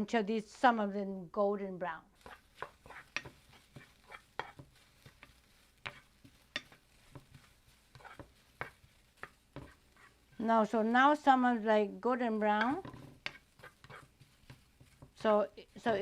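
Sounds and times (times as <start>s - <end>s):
faint sizzle: 0.0s - 16.0s
utensil scraping a frying pan: 2.1s - 16.0s.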